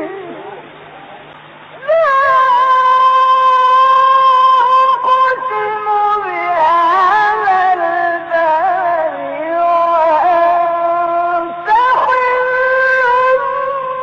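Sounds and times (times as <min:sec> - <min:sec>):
person reciting in melodic voice: 0:00.0 - 0:00.7, 0:01.8 - 0:14.0.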